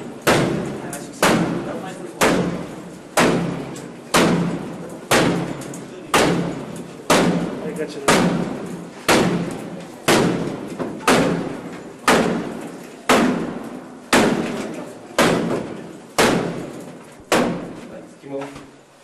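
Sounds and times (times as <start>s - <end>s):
heavy blows on wooden door: 0.0s - 17.9s.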